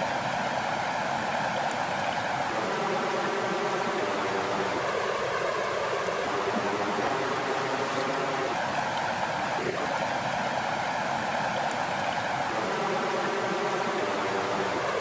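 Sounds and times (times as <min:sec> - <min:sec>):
flowing water: 0:00.0 - 0:15.0.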